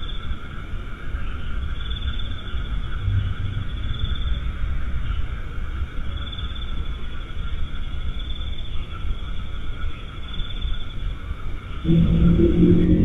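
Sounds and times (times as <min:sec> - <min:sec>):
crickets trilling: 0:00.0 - 0:13.0
low rumble and hiss: 0:00.0 - 0:13.0.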